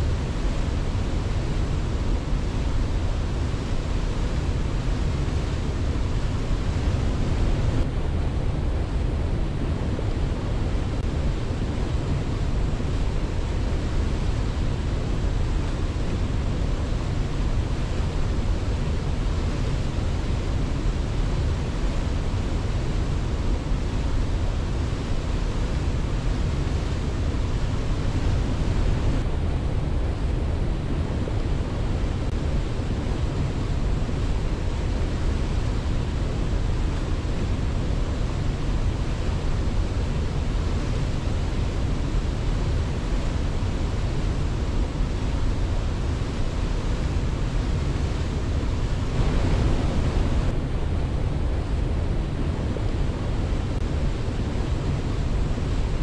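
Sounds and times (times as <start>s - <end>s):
rushing water roar: 0.0s - 56.0s.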